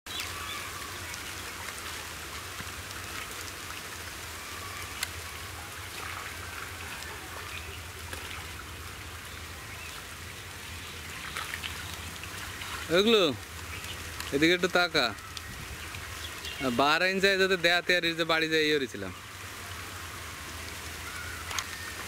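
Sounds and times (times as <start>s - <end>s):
pond water splashing and trickling: 0.1s - 22.0s.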